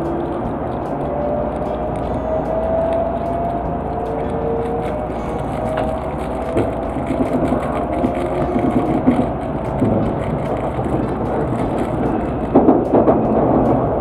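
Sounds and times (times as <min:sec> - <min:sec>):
train motors running: 0:00.0 - 0:14.0
train wheels rumbling on rail: 0:00.0 - 0:14.0.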